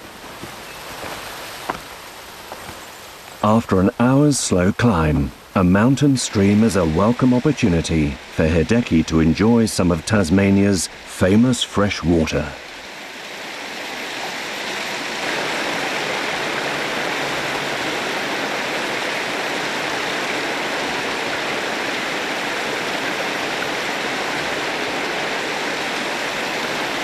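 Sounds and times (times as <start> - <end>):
stream cascading over rocks: 0.0 - 27.0.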